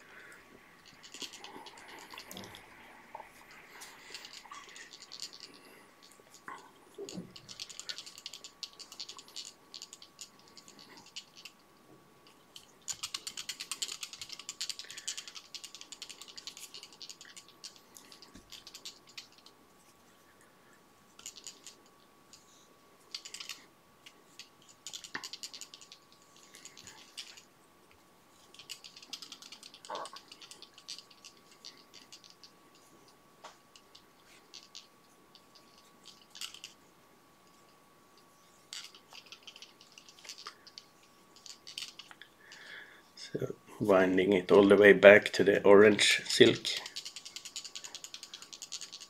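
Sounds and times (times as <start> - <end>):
fine ticking and rustling: 0.0 - 49.0.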